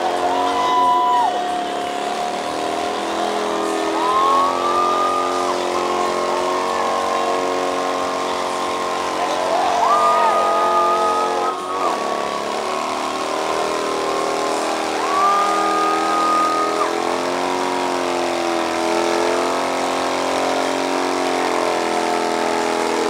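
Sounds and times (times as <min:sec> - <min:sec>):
motorcycle engine revving high: 0:00.0 - 0:23.0.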